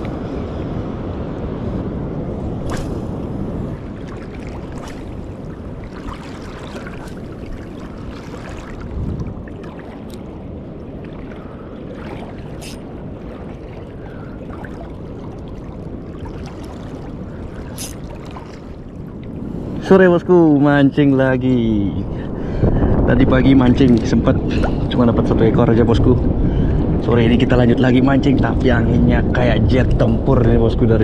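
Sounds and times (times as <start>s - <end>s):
sea surf: 0.0s - 31.0s
wind noise on microphone: 0.0s - 31.0s.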